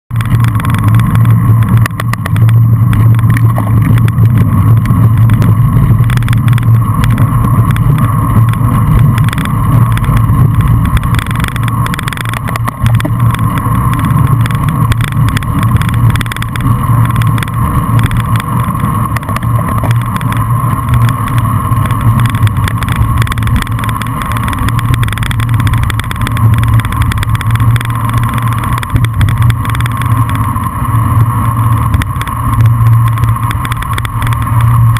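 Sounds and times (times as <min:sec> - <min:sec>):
bicycle tyre and road rumble: 0:00.0 - 0:34.9
wind rushing over microphone: 0:00.1 - 0:34.9.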